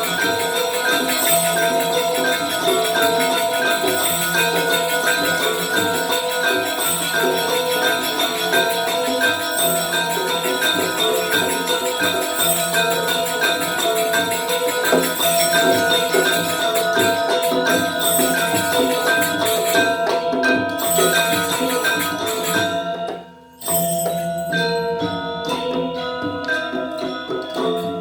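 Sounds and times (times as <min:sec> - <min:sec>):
metallophones playing rhythm: 0:00.0 - 0:28.0.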